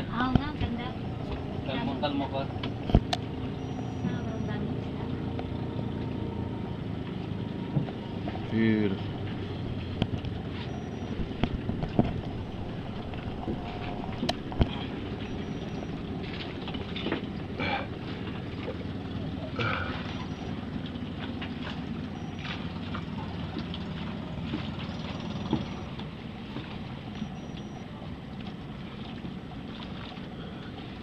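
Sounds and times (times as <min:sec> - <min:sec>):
boat engine running: 0:00.0 - 0:31.0
water and wind along hull: 0:00.0 - 0:31.0.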